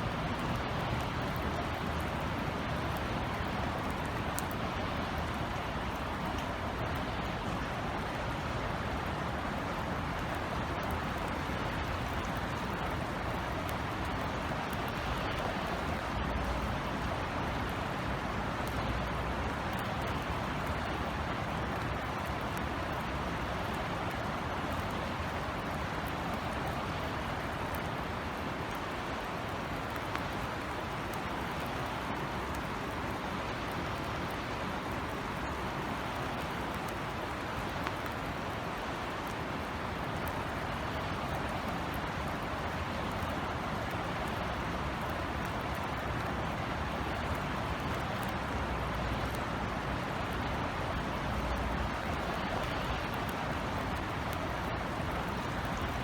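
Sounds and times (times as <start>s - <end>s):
distant traffic hum: 0.0s - 56.0s
light rain hissing: 0.0s - 56.0s
raindrop ticks: 0.0s - 56.0s.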